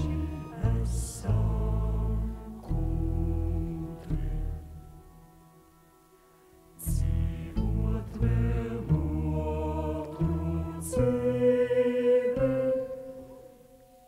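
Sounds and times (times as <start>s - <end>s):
voices chanting: 0.0s - 4.8s, 6.8s - 13.8s.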